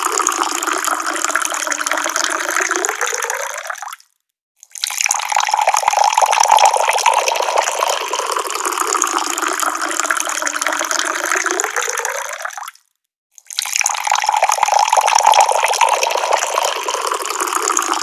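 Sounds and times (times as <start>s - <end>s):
tap water pouring: 0.0s - 4.0s, 4.7s - 12.8s, 13.4s - 18.0s.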